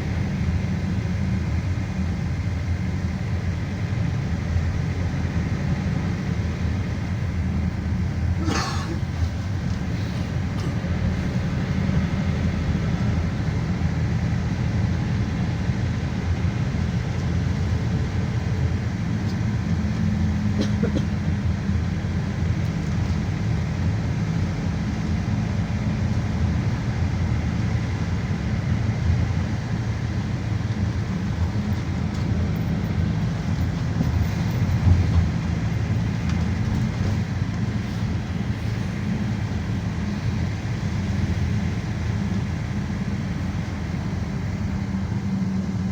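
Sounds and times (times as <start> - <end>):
engine and road rumble: 0.0 - 45.9.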